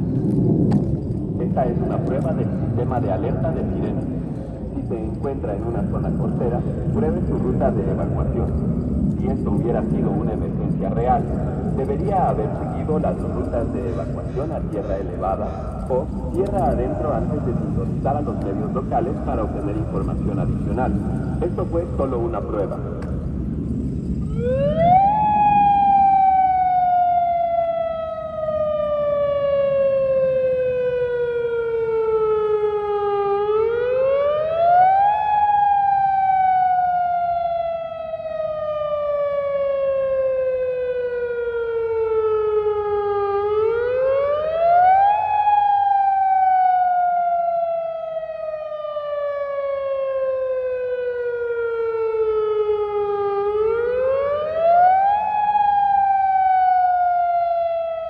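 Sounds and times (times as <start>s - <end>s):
warning siren wailing: 0.0s - 58.0s.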